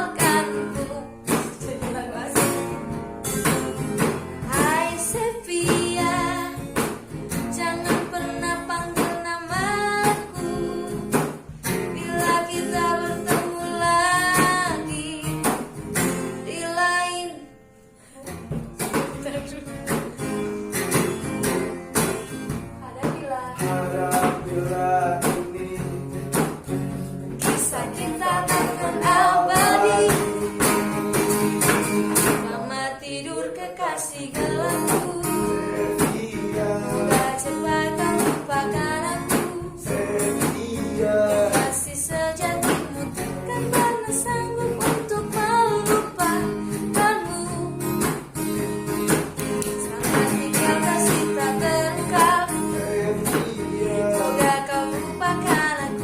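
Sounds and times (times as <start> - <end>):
woman singing a pop ballad: 0.0 - 15.7, 16.4 - 17.5, 18.2 - 20.5, 22.8 - 24.5, 27.3 - 30.7, 32.2 - 48.2, 49.4 - 56.0
strummed acoustic guitar: 0.0 - 56.0.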